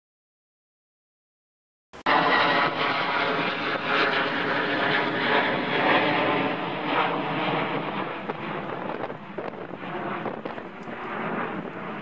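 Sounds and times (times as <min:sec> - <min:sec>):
jet airliner engines rushing: 0:02.0 - 0:12.0.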